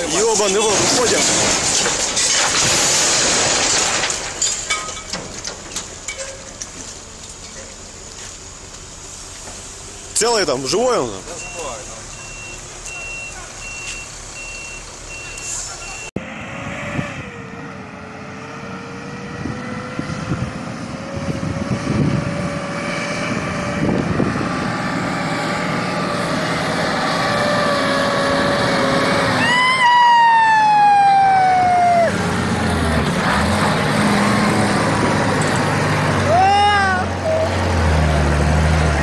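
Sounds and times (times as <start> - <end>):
dump truck engine: 0.0 - 39.0.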